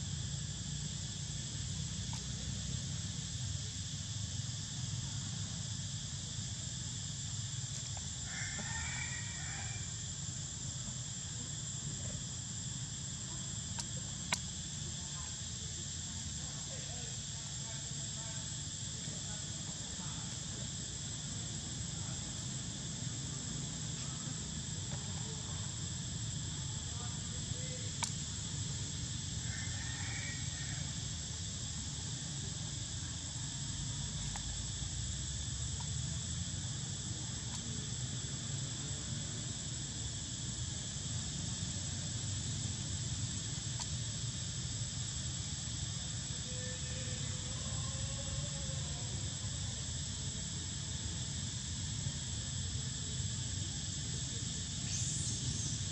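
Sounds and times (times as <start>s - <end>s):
high-pitched insect chorus: 0.0s - 55.9s.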